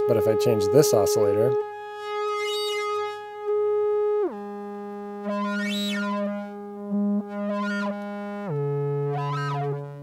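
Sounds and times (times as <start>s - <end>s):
synthesizer sustained tone: 0.0s - 10.0s.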